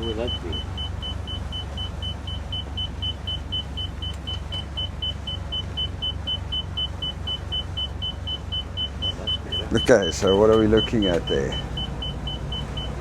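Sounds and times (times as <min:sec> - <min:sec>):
boat engine droning: 0:00.0 - 0:13.0
electronic alarm beeping rapidly: 0:00.0 - 0:13.0.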